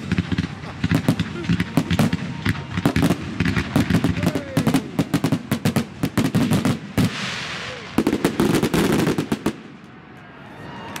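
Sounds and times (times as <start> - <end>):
fireworks hissing: 0.0 - 9.7
fireworks bangs: 0.0 - 10.2.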